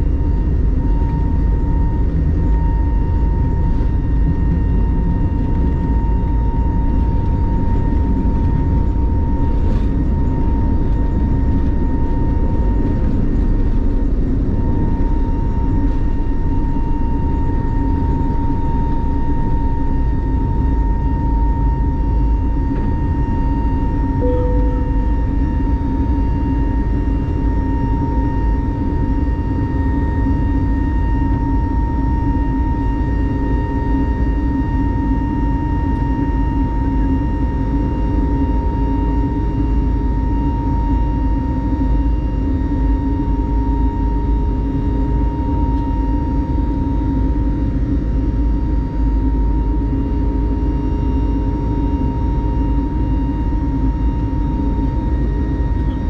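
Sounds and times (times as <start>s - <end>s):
jet engines inside airliner cabin: 0.0s - 56.0s.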